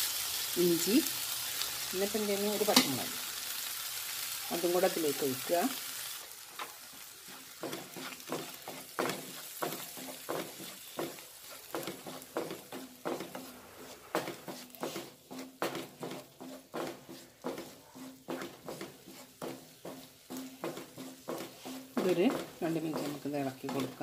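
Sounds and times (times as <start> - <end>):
soft sizzle: 0.0 - 24.0
wooden spatula scraping a pan: 4.5 - 24.0.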